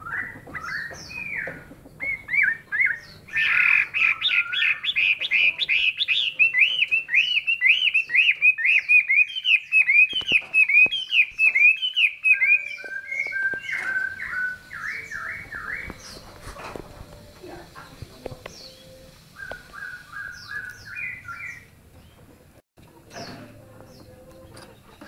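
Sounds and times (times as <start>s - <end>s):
bird singing whistled notes: 0.0s - 16.4s, 17.9s - 21.7s.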